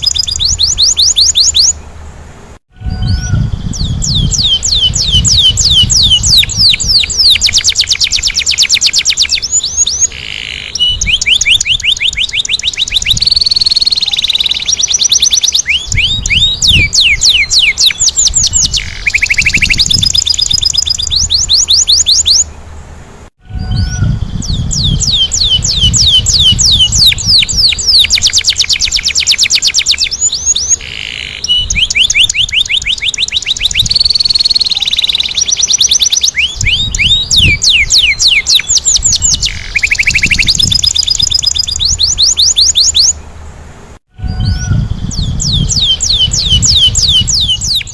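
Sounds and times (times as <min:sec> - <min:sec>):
canary singing trills: 0:00.0 - 0:02.0, 0:02.8 - 0:22.6, 0:23.5 - 0:43.4, 0:44.2 - 0:47.9.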